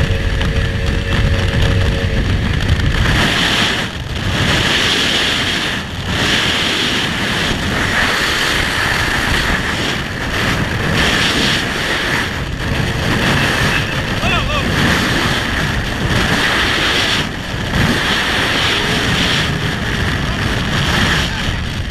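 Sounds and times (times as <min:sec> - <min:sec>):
water rushing past boat hull: 0:00.0 - 0:21.9
wind on microphone: 0:00.0 - 0:21.9.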